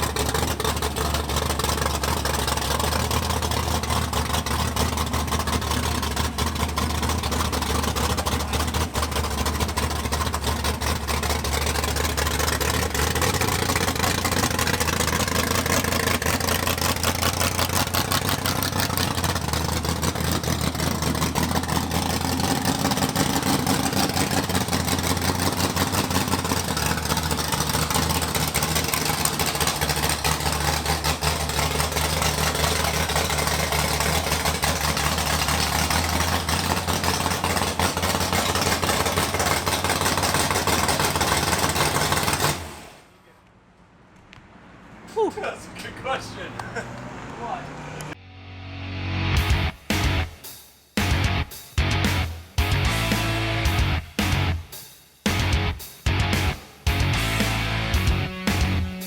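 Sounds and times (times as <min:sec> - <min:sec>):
v eight engine loping idle: 0:00.0 - 0:43.5, 0:51.0 - 0:54.6, 0:55.3 - 0:59.0.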